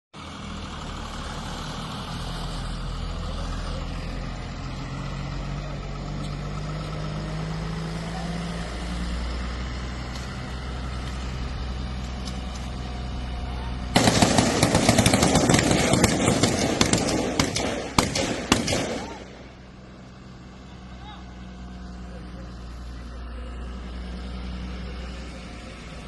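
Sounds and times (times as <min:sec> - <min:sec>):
heavy vehicle engine droning: 0:00.2 - 0:26.0.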